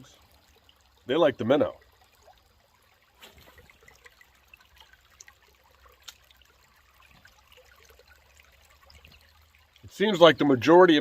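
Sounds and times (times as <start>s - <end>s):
running water trickling: 0.0s - 11.0s.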